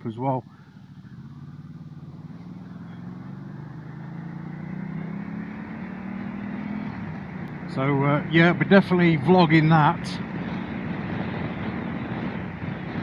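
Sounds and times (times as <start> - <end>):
motorcycle engine accelerating: 0.4 - 13.0.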